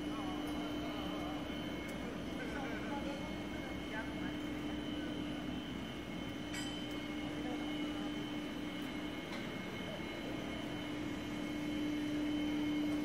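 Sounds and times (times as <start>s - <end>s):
high machine whine: 0.0s - 13.0s
machine drone with low hum: 0.0s - 13.0s.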